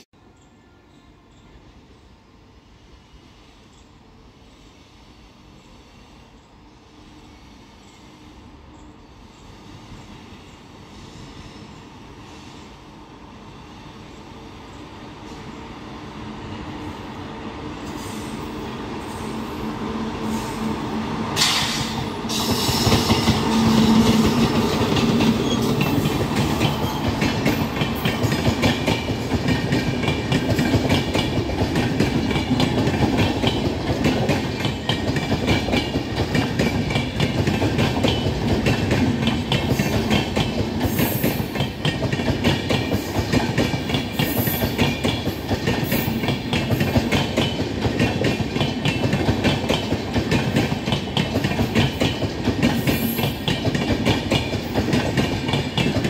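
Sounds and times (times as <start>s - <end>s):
train rumbling past on rails: 0.0s - 56.0s.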